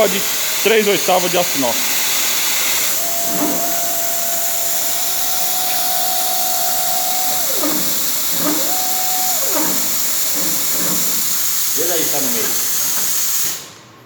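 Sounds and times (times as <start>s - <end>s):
plasma cutter hiss: 1.3s - 13.8s
motor whine: 1.8s - 13.1s.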